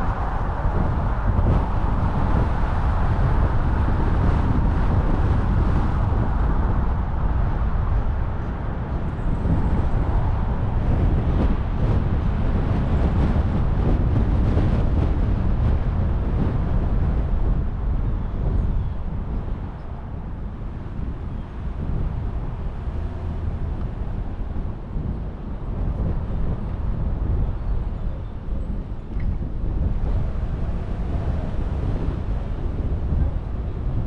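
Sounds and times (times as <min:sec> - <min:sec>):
car driving along: 0:00.0 - 0:34.0.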